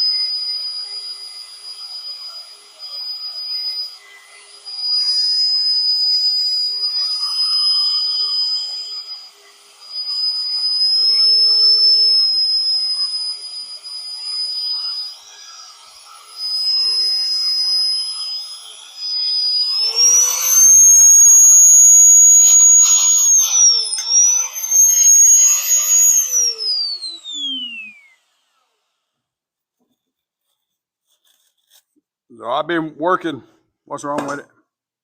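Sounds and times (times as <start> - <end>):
drill cutting steel: 0.0 - 29.2
electric drill whining: 0.0 - 29.4.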